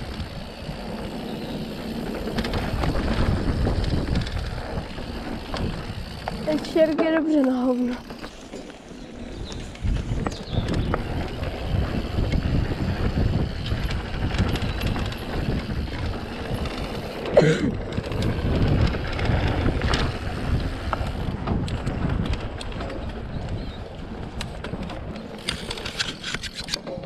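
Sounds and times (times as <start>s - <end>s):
bike clicking and rattling: 0.0s - 27.0s
tyres rolling over dirt: 0.0s - 27.0s
wind buffeting microphone: 0.0s - 27.0s.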